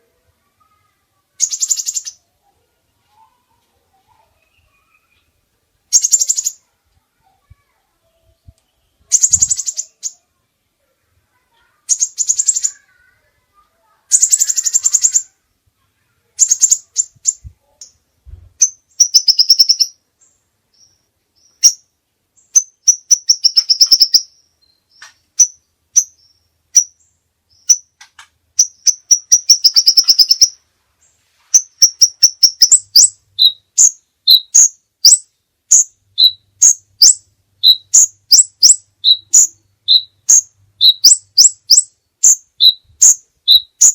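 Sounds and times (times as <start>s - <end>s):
songbird singing buzzy trills: 0.0s - 10.4s, 11.0s - 15.4s, 16.0s - 18.0s, 18.6s - 43.9s
bird chirping: 0.0s - 15.4s, 16.0s - 43.9s.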